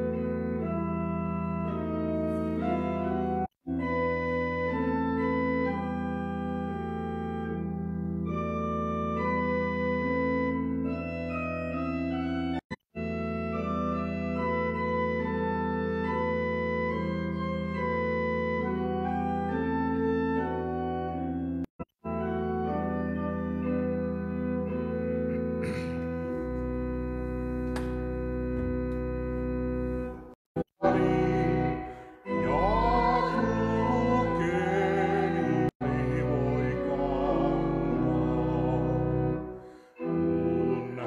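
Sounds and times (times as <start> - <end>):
church organ chords: 0.0 - 41.0.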